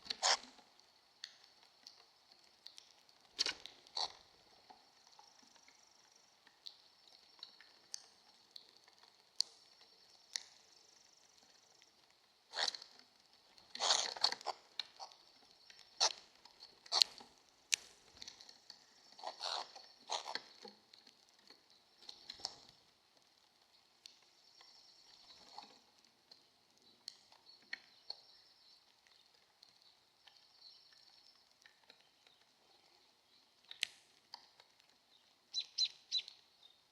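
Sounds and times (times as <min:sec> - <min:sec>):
birds pecking at feed: 0:00.0 - 0:36.9.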